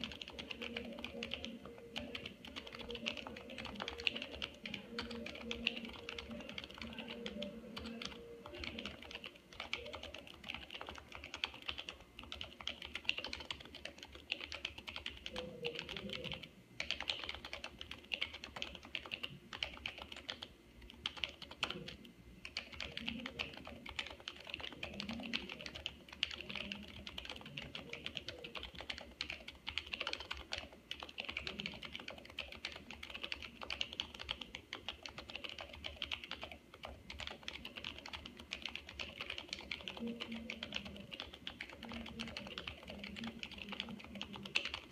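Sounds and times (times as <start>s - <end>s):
fast keyboard typing: 0.0s - 44.9s.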